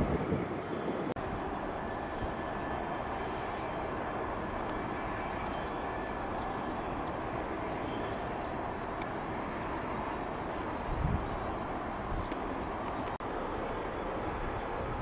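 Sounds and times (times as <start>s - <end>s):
distant locomotive depot rumble: 0.0s - 15.0s.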